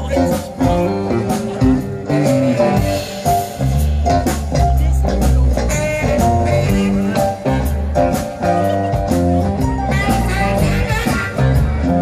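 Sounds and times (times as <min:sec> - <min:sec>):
live blues band playing: 0:00.0 - 0:12.0.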